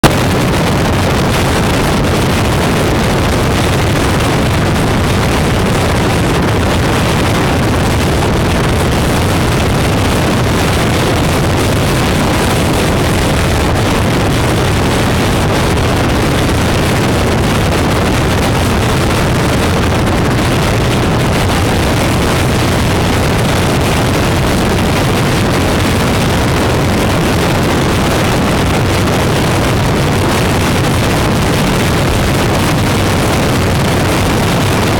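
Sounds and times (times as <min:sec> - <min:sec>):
motorcycle engine drone: 0:00.0 - 0:34.9
wind rushing over microphone: 0:00.0 - 0:34.9.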